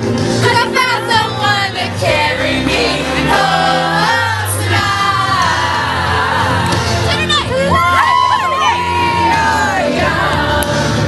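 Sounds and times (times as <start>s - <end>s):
loud pop music with singing: 0.0s - 11.0s.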